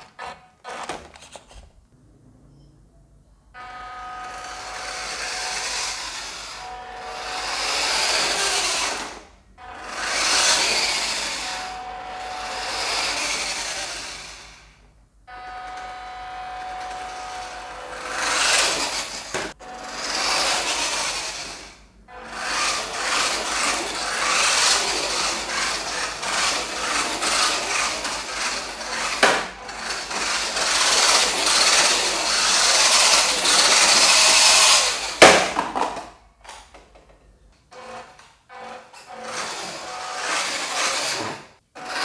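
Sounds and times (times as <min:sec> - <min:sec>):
electric motor whirring and grinding: 0:03.6 - 0:35.3, 0:37.7 - 0:42.0.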